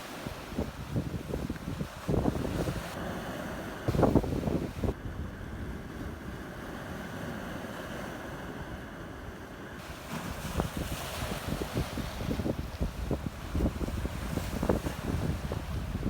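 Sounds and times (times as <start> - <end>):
wind buffeting microphone: 0.0 - 7.0, 9.8 - 16.0.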